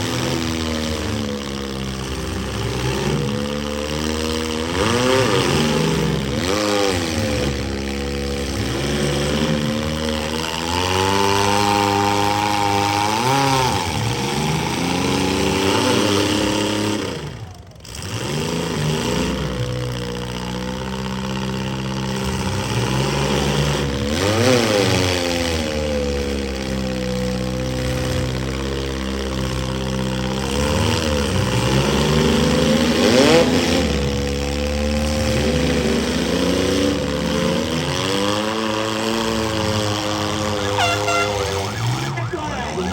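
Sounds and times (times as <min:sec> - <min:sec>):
car engines revving: 0:00.0 - 0:42.9.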